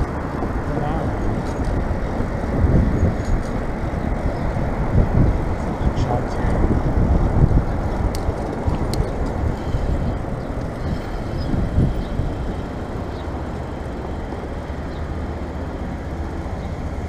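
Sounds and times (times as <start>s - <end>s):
road traffic rush: 0.0s - 17.0s
wind noise: 0.0s - 17.0s.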